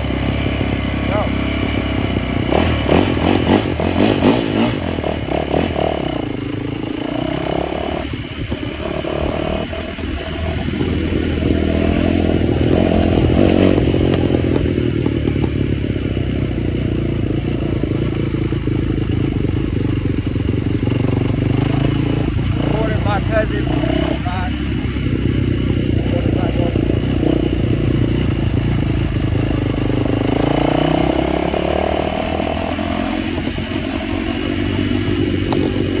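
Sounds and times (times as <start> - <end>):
small motorbike engine revving: 0.0 - 36.0.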